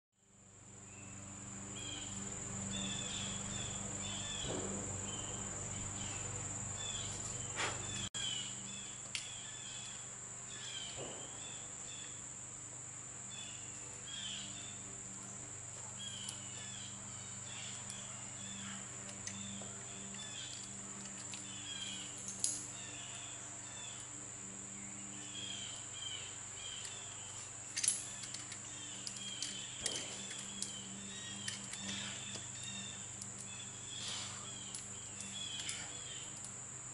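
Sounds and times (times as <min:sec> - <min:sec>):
insects droning: 0:00.2 - 0:36.9
insect chirping calls: 0:00.6 - 0:36.9.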